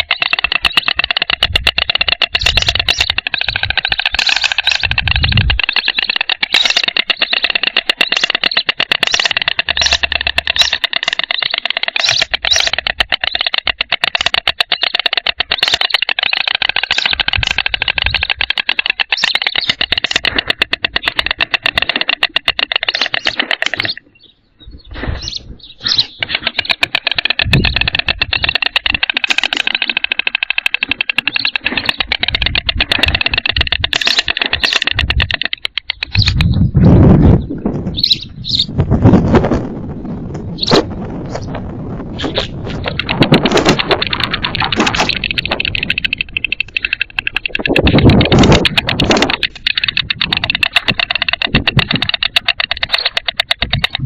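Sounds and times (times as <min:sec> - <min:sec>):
storks bill-clattering: 0:00.0 - 0:24.2, 0:24.9 - 0:36.6, 0:42.2 - 0:54.0.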